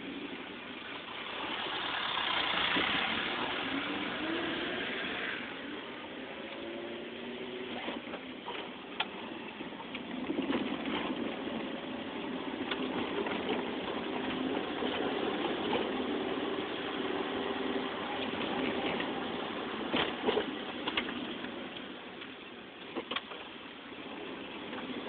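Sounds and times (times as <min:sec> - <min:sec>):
road noise inside car: 0:00.0 - 0:25.0.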